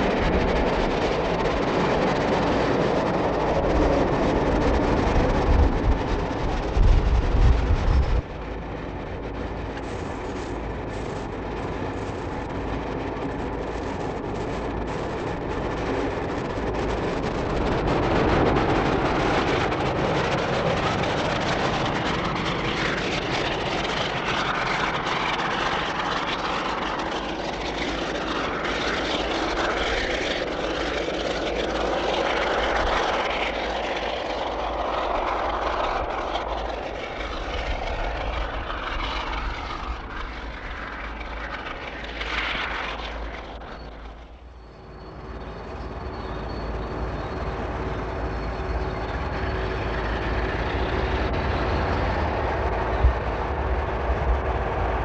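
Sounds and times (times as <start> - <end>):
diesel locomotive engine drone: 0.0 - 55.0
train rumble: 0.0 - 55.0.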